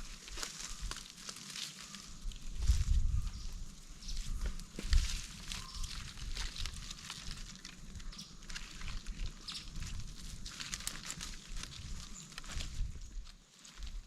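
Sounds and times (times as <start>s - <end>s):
leaf litter and twigs crackling: 0.0s - 14.0s.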